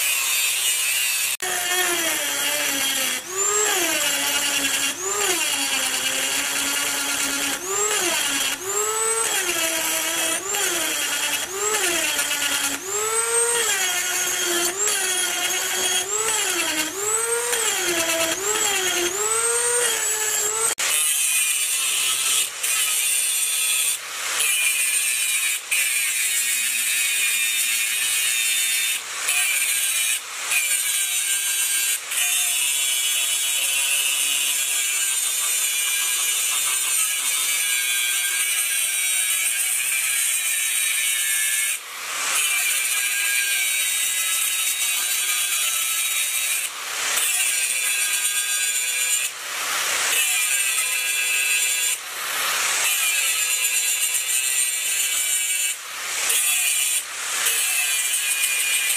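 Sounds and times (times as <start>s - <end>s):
angle grinder cutting steel: 0.0s - 58.9s.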